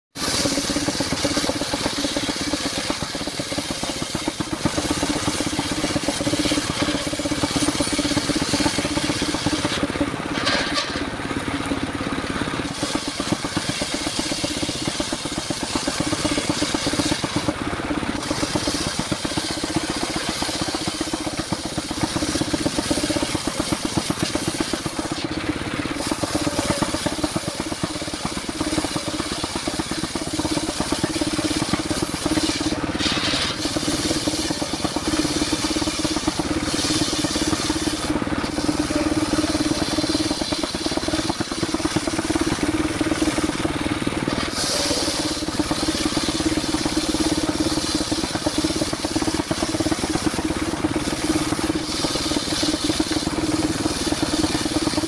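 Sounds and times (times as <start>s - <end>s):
circular saw cutting log: 0.2s - 55.0s
diesel engine running under load: 0.2s - 55.0s.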